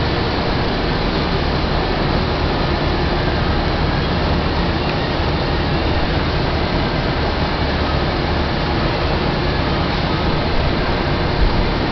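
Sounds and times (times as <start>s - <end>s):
floor mixer humming: 0.0s - 11.9s.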